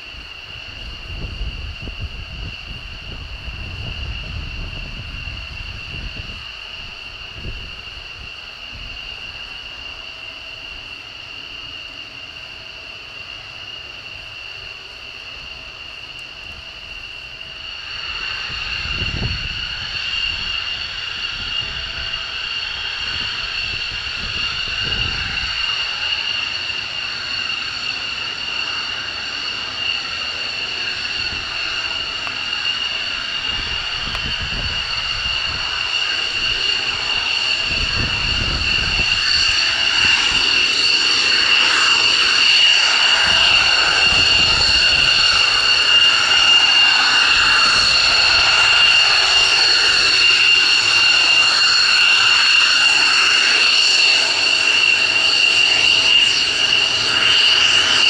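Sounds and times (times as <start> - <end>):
jet engine whine and hiss: 0.0 - 58.0.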